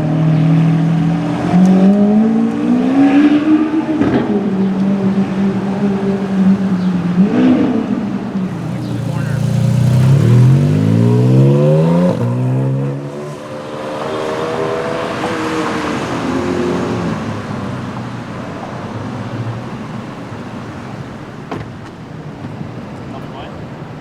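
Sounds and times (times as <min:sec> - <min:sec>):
sports car engine revving: 0:00.0 - 0:21.4
background traffic: 0:00.0 - 0:24.0.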